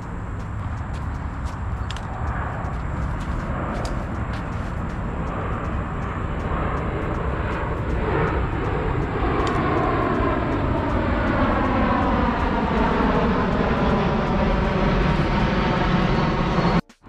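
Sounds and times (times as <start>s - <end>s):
aircraft flying by: 0.0s - 16.9s.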